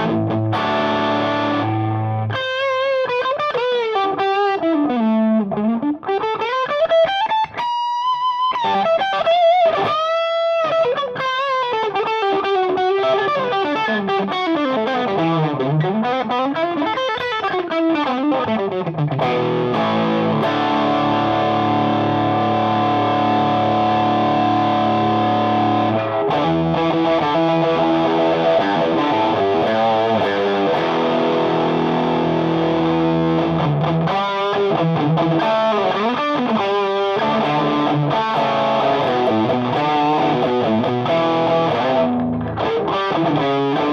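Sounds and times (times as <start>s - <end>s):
overdriven electric guitar: 0.0s - 43.9s.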